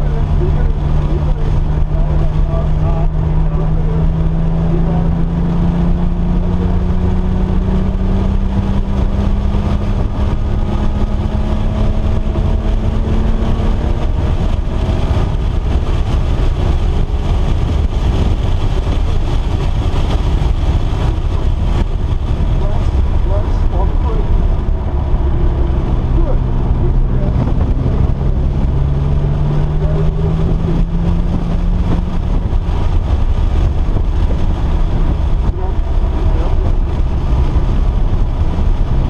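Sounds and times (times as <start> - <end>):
car engine running at speed: 0.0 - 39.0
road rumble: 0.0 - 39.0
wind noise: 0.0 - 39.0.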